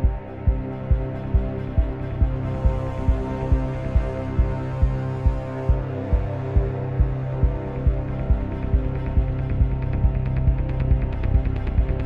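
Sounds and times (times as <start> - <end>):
heavy low pulse: 0.0 - 12.0
low droning chord: 0.0 - 12.0.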